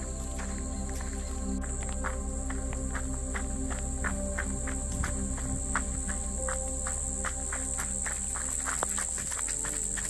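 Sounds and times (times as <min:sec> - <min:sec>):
background music: 0:00.0 - 0:10.0
footsteps crunching on leaves: 0:00.0 - 0:10.0.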